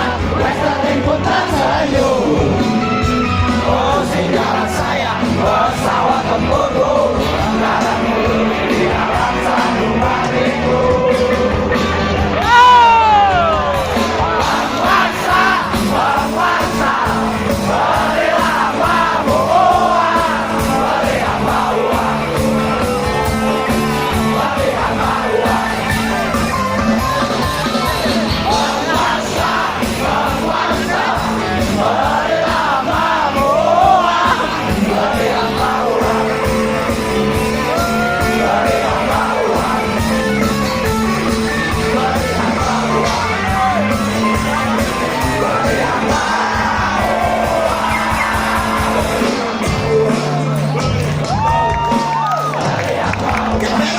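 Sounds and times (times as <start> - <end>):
crowd shouting along: 0.0 - 53.9
live band with singing: 0.0 - 53.9.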